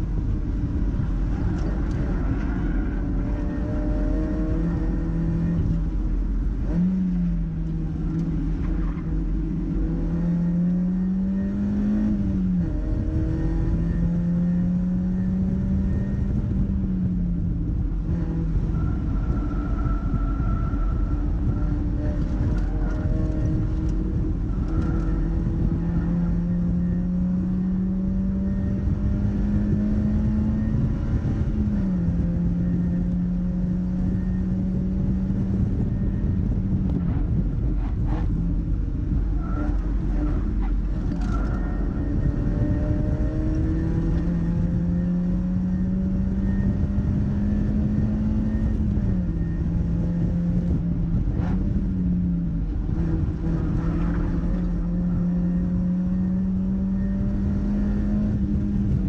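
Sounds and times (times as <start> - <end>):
car engine revving with upshifts: 0.0 - 59.0
wind and tyre noise: 0.0 - 59.0.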